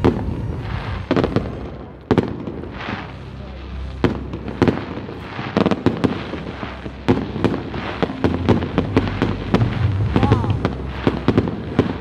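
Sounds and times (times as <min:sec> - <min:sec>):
fireworks bangs and crackling pops: 0:00.0 - 0:12.0
low rumble: 0:00.0 - 0:12.0.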